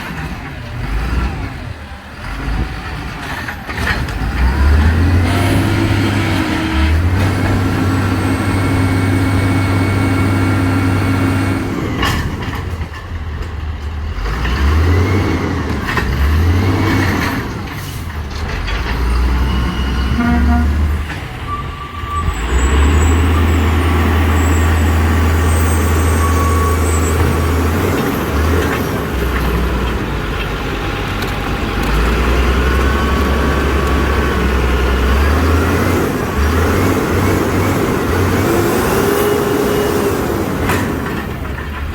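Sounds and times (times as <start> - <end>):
garbage truck diesel engine revving: 0.0 - 41.9.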